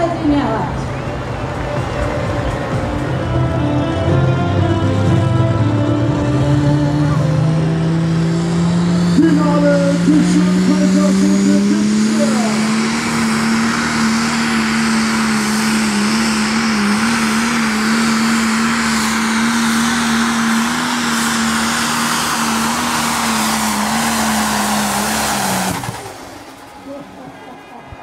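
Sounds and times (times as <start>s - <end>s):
tractor diesel engine running flat out: 0.0s - 28.0s.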